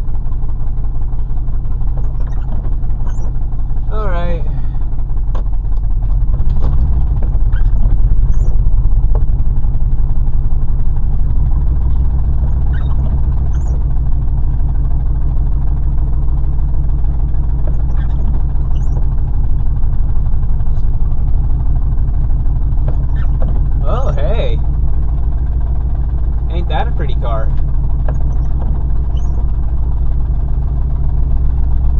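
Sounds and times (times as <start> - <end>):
car engine running: 0.0 - 31.9.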